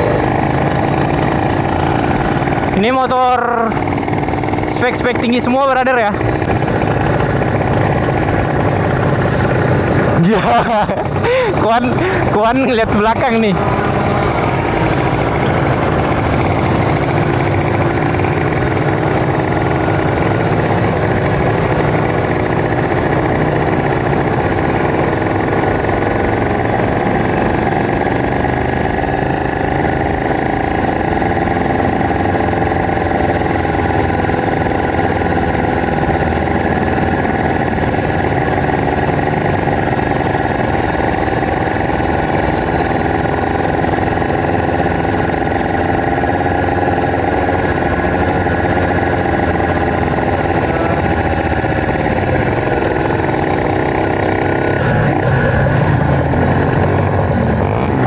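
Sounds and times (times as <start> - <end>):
motorcycle engine at low revs: 0.0 - 58.0
other motorcycle engines: 0.0 - 58.0.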